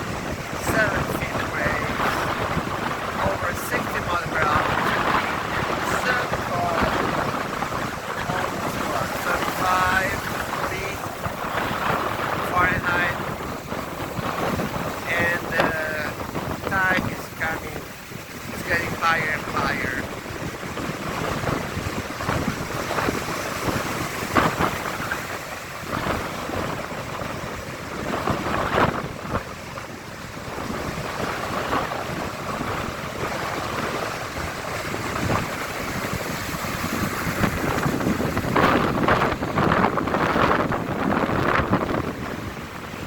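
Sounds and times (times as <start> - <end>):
surf breaking on beach: 0.0 - 43.0
wind buffeting microphone: 0.0 - 43.0.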